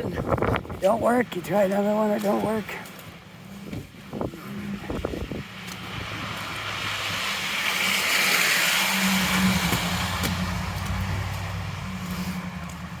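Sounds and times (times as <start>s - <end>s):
car approaching on snowy street: 0.0s - 13.0s.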